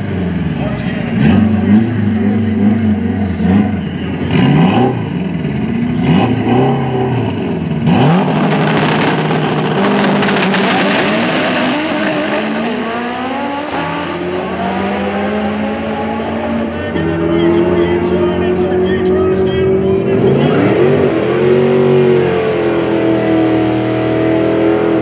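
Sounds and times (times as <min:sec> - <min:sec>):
cars accelerating through gears: 0:00.0 - 0:25.0
race car engines revving: 0:00.0 - 0:25.0.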